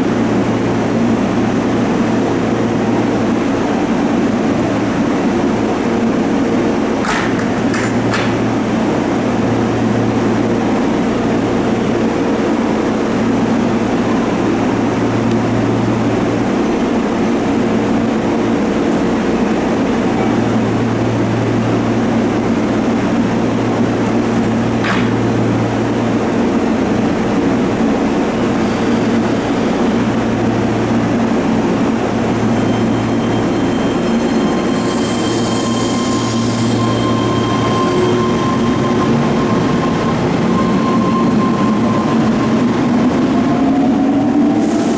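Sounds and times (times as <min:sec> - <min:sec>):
electric train rumble: 0:00.0 - 0:44.9.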